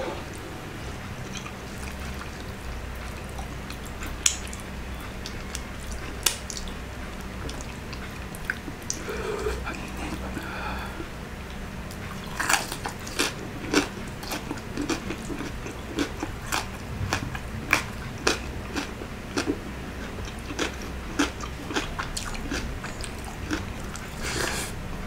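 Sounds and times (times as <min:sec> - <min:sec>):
person chewing crunchy food: 0:00.8 - 0:24.8.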